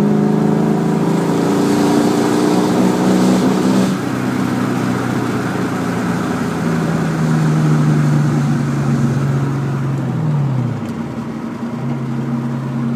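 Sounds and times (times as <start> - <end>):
car engine running under load: 0.0 - 12.9.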